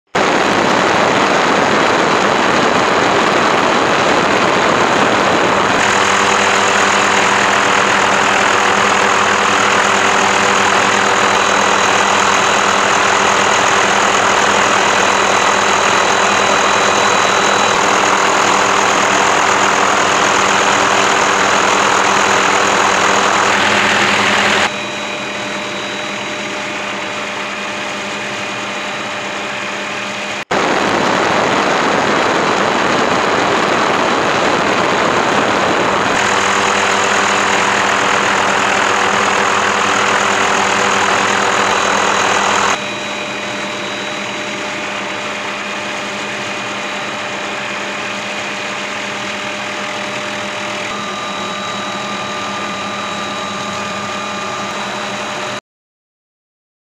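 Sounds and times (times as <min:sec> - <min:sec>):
engine rushing with whining tones: 0:00.1 - 0:55.6.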